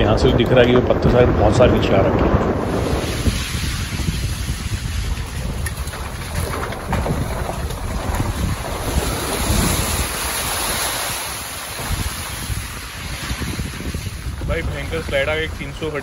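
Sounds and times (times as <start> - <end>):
tyres rolling over mud and stones: 0.0 - 16.0
wind buffeting microphone: 0.0 - 16.0.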